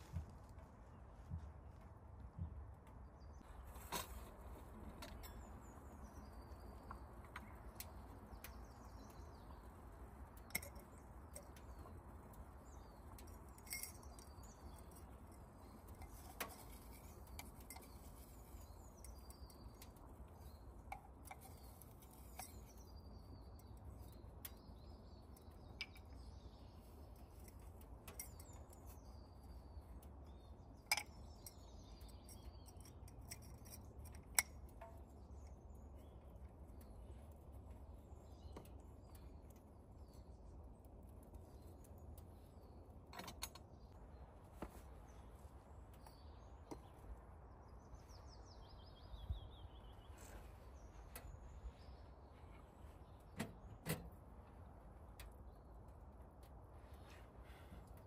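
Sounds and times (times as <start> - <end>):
faint birdsong: 0.0 - 58.0.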